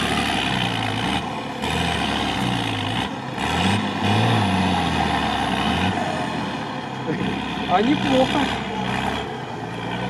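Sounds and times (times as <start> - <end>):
truck engine revving under load: 0.0 - 10.0.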